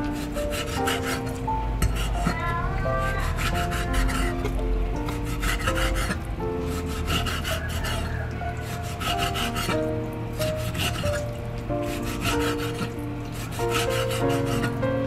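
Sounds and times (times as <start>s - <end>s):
light instrumental music: 0.0s - 15.0s.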